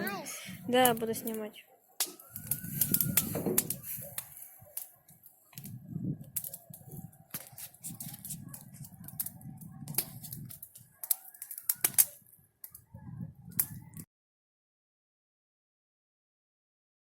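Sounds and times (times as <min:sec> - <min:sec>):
bonfire crackling and popping: 0:00.1 - 0:14.1.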